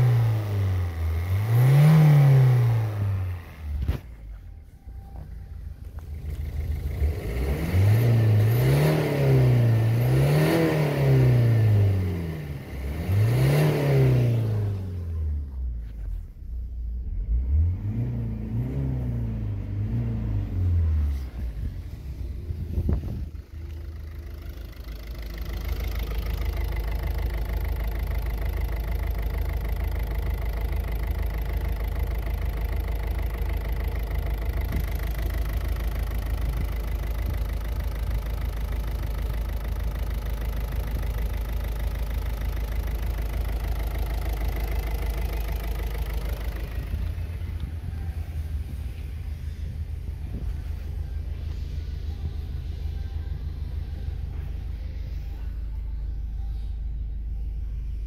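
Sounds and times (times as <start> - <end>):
diesel engine idling: 0.0 - 58.0
diesel engine revving: 0.0 - 58.0.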